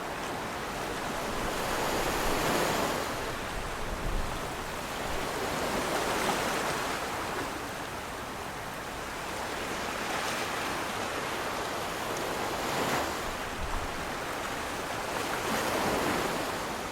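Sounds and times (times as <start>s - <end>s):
waves breaking and washing in: 0.0s - 16.9s.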